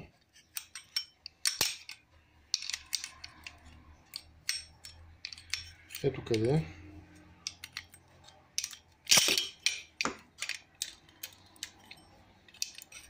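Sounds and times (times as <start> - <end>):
tools clicking on metal bolts: 0.3 - 13.0.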